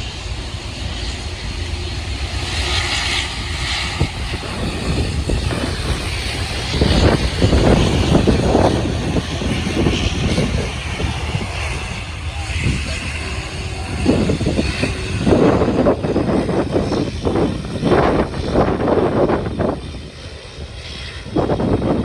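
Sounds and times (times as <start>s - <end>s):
airliner engines roaring overhead: 0.0s - 22.0s.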